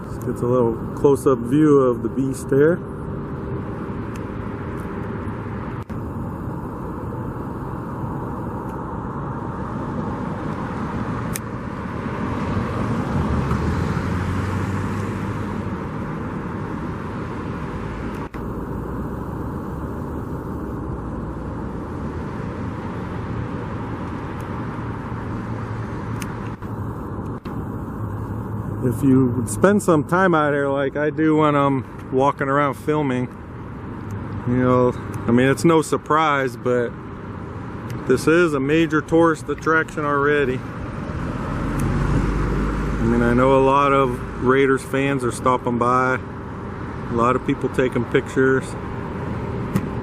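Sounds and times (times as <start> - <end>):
road traffic hum: 0.0 - 50.0
vehicle passing: 2.6 - 50.0.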